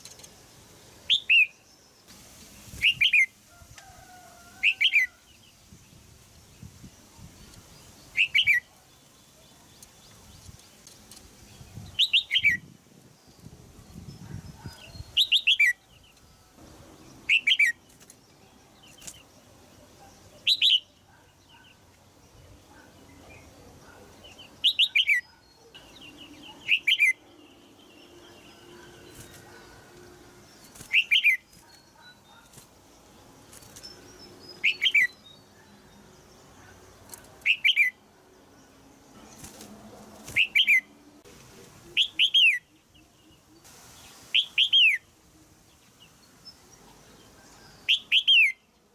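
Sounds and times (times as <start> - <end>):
bird chirping: 0.0 - 3.3, 6.6 - 48.9.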